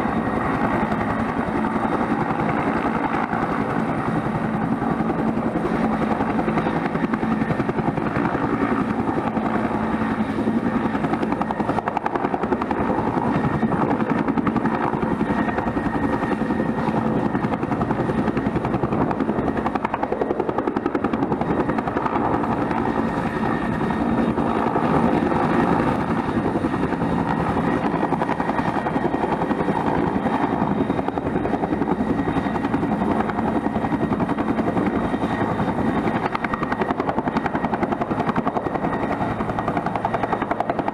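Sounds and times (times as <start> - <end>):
helicopter rotor beating: 0.0 - 40.9
turbine engine whine: 0.0 - 40.9.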